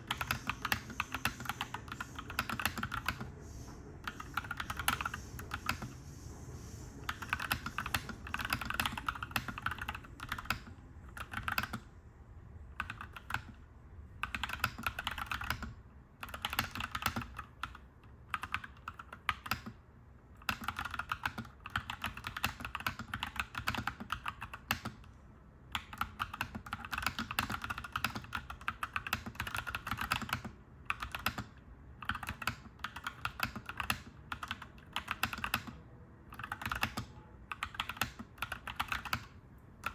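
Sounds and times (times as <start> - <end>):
mechanical keyboard typing: 0.0 - 3.3, 4.0 - 6.0, 7.0 - 11.9, 12.8 - 13.6, 14.2 - 19.8, 20.4 - 25.1, 25.7 - 39.9.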